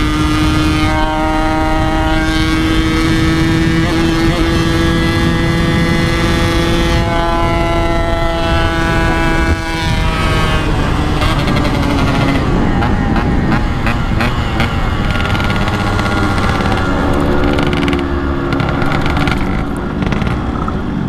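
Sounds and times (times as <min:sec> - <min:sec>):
motorcycle engine at high revs: 0:00.0 - 0:21.0
wind on microphone: 0:00.0 - 0:21.0.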